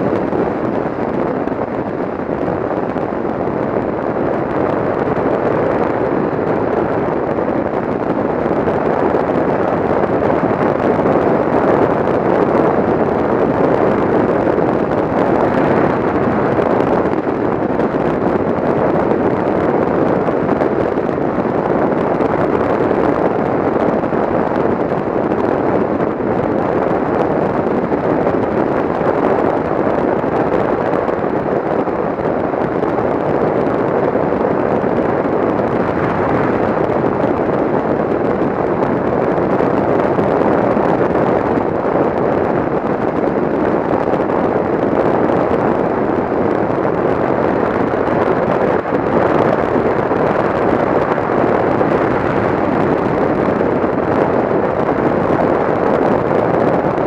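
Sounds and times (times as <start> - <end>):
tyre road noise: 0.0 - 57.0
wind buffeting microphone: 0.0 - 57.0.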